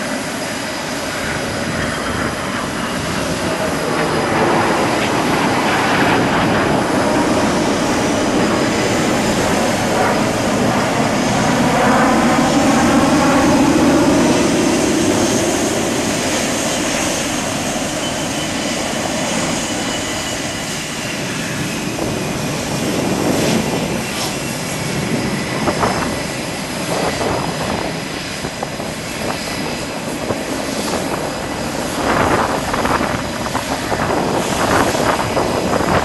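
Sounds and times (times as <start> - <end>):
jet engines rushing with whine: 0.0 - 36.0.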